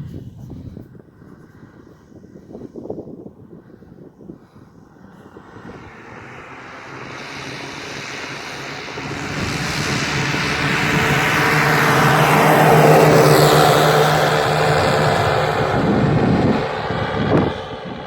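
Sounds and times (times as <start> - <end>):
model plane engines droning: 0.8 - 18.0.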